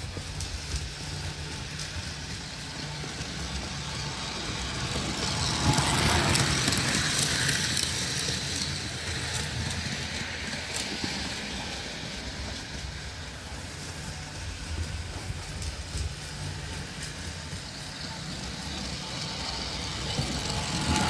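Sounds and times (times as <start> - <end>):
model train rumbling on track: 0.0 - 21.0.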